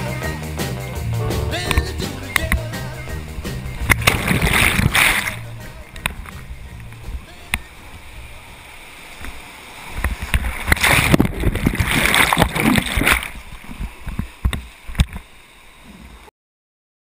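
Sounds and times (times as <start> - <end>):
whitewater rushing and splashing: 1.2 - 15.8.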